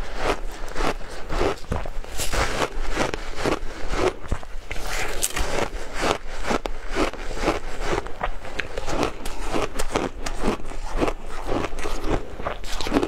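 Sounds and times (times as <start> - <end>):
ice crunched between teeth: 0.2 - 13.0.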